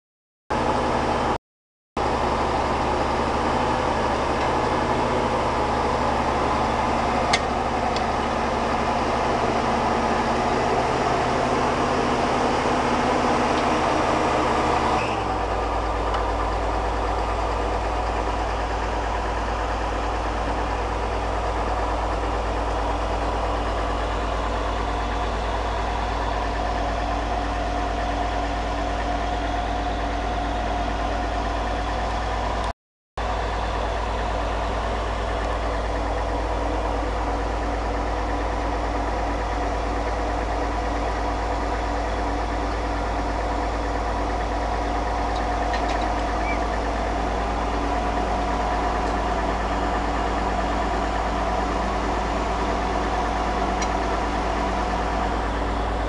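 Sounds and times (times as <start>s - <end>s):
drilling rig engine running: 0.5s - 1.4s, 2.0s - 56.0s.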